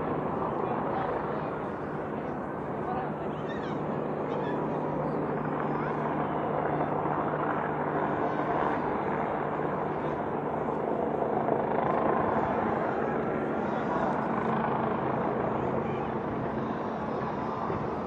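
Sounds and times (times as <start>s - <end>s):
crowd murmuring: 0.0s - 18.0s.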